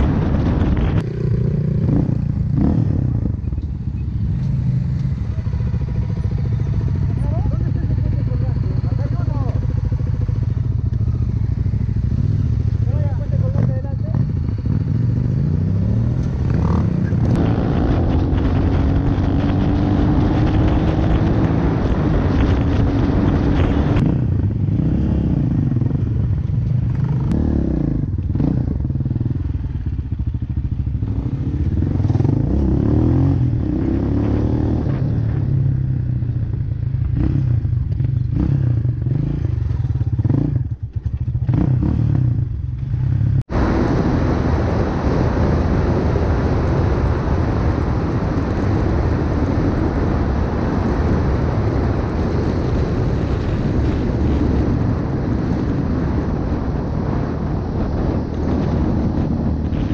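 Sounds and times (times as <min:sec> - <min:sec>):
steady rush of noise: 0:00.0 - 0:40.0, 0:42.5 - 0:59.9
off-road motorcycle engine revving: 0:00.0 - 0:59.9.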